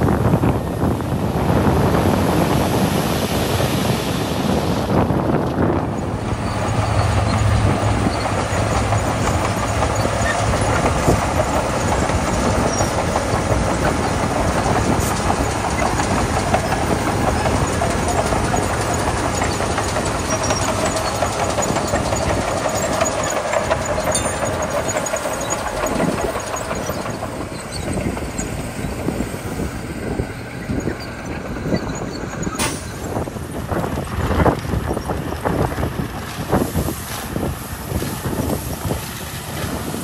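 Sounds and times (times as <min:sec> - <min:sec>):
bulldozer engine running: 0:00.0 - 0:40.0
dump truck engine running: 0:00.0 - 0:40.0.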